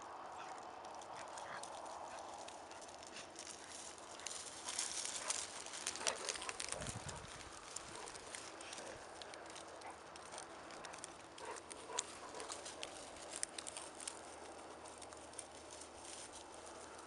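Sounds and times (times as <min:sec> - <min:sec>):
footsteps crunching on frozen ground: 0:00.2 - 0:17.0.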